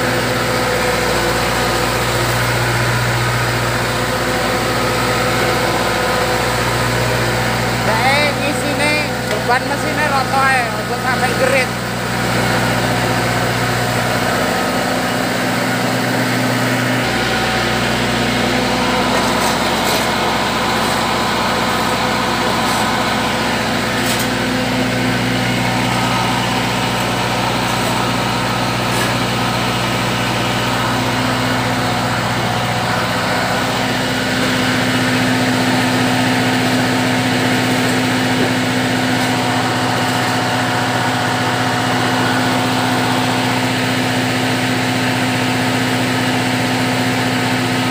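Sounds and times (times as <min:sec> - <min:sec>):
machine engine humming: 0:00.0 - 0:47.9.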